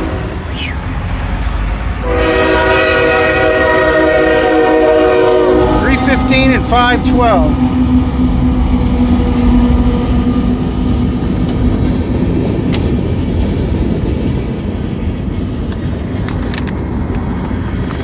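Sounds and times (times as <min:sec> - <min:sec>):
diesel locomotive drone: 0:00.0 - 0:18.0
train wheels rumbling on rails: 0:00.0 - 0:18.0.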